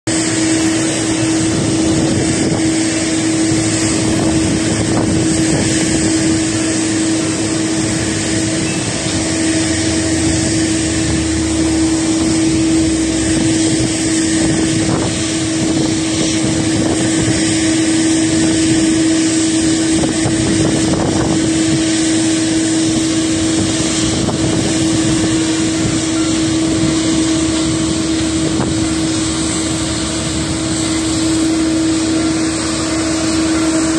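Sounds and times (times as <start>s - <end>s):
droning hum: 0.1s - 33.9s
jet engine noise: 0.1s - 33.9s
wind on microphone: 0.1s - 33.9s.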